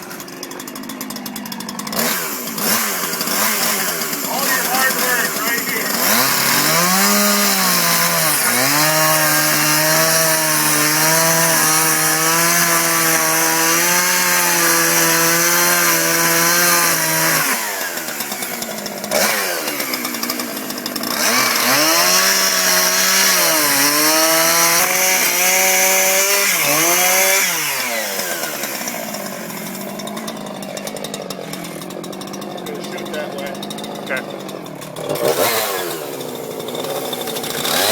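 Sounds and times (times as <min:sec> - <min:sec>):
chainsaw revving: 0:00.0 - 0:37.9.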